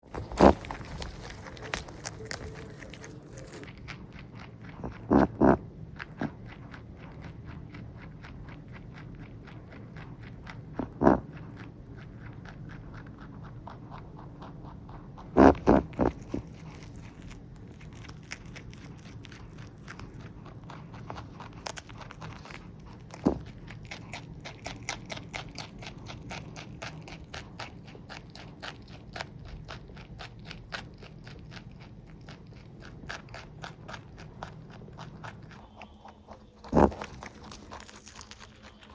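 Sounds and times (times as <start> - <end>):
rabbit crunching chews: 0.0 - 38.9
rabbit snorting: 0.0 - 38.9.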